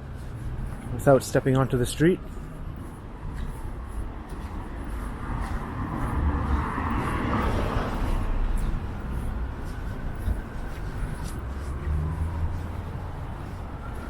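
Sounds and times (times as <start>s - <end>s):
vehicle passing: 0.0s - 14.0s
wind rumbling on microphone: 0.0s - 14.0s.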